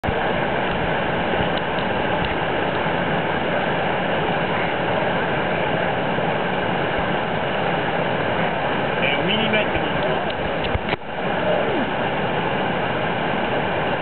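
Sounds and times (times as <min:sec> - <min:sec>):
river rapids roaring: 0:00.0 - 0:14.0.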